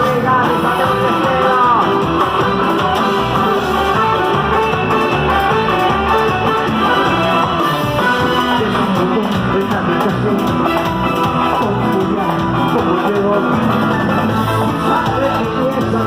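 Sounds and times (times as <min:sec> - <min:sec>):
guitar-led music: 0:00.0 - 0:16.0.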